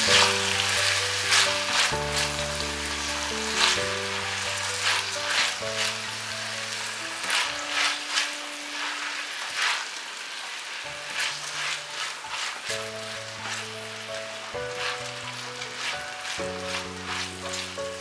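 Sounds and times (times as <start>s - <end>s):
rice sizzling in oil: 0.0s - 18.0s
spatula scraping a pan: 0.0s - 18.0s.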